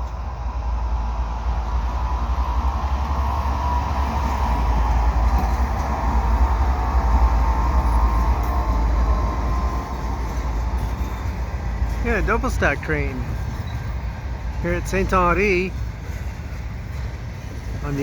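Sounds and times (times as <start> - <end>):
freight train wheels rumbling on rail: 0.0 - 18.0.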